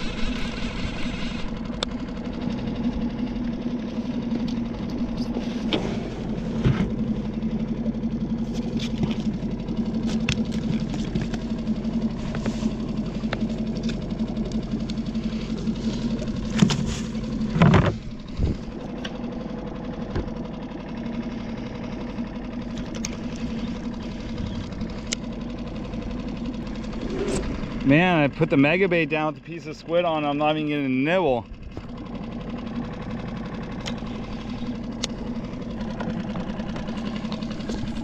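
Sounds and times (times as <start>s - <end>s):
outboard motor idling: 0.0s - 38.0s.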